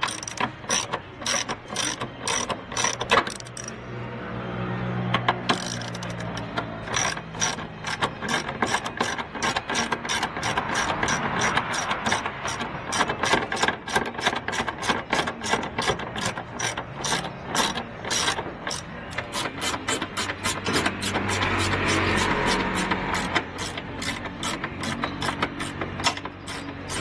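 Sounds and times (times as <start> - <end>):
ratchet wrench clicking: 0.0 - 3.8, 5.3 - 27.0.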